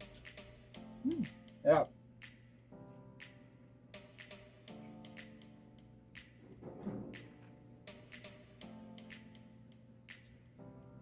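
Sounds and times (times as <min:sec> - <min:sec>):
quiet instrumental background music: 0:00.0 - 0:11.0.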